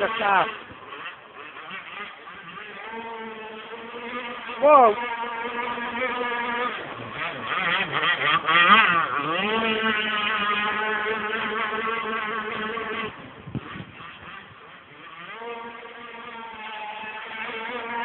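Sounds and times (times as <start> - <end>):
model boat engine buzzing: 0.0 - 18.0.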